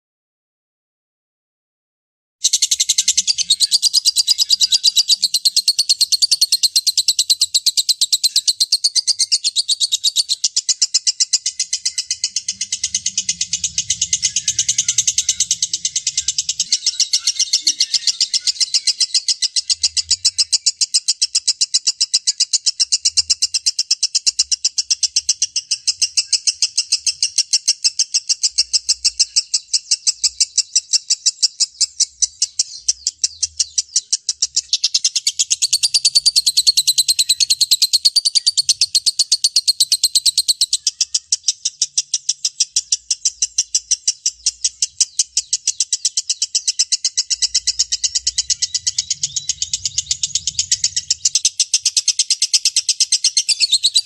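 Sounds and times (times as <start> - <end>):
lovebird chattering: 2.4 - 54.0.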